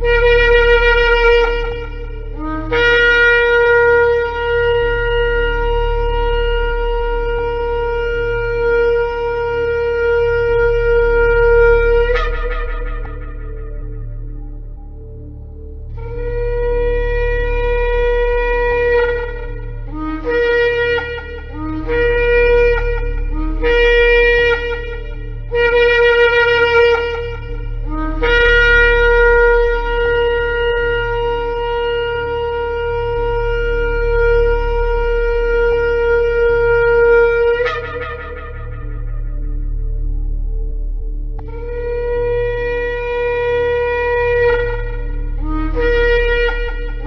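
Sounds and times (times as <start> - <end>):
shofar blasts: 0.0 - 47.0.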